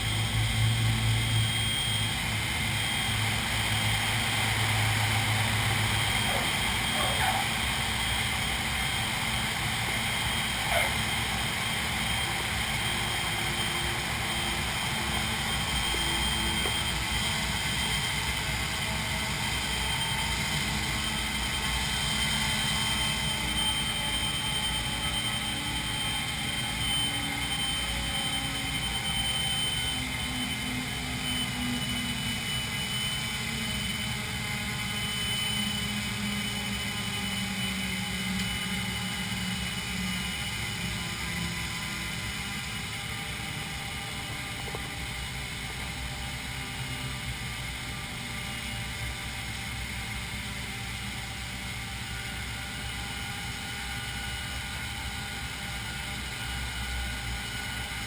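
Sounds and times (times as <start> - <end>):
constant high whine: 0.0 - 58.0
radial aircraft engines running: 0.0 - 58.0.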